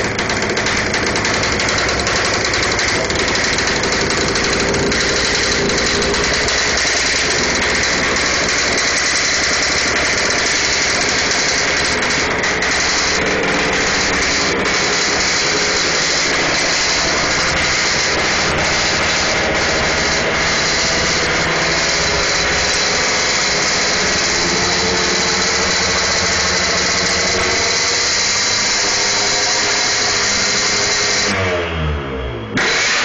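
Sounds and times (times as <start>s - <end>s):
two-stroke motorcycle engine running: 0.0s - 31.5s, 32.6s - 33.0s.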